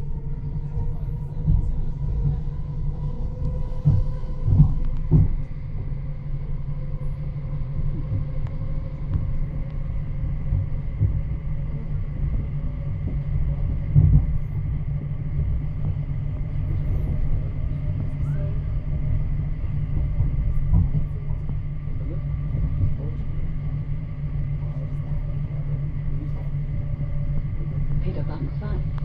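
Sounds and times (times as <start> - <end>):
faint steady whine: 0.0 - 29.0
train wheels rumbling on rails: 0.0 - 29.0.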